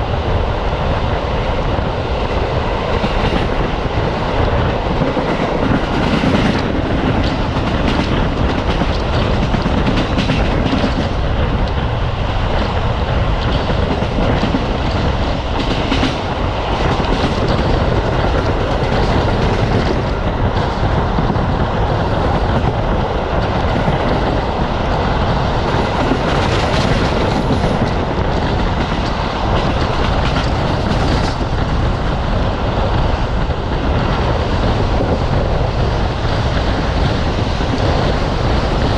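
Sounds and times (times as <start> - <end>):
train carriage rumble: 0.0 - 38.9
wheels clacking over rail joints: 2.4 - 38.9.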